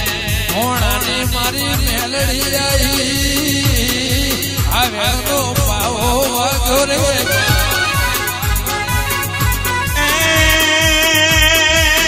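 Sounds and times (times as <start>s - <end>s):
steady drum beat: 0.0s - 12.0s
wavering melodic line: 1.3s - 12.0s.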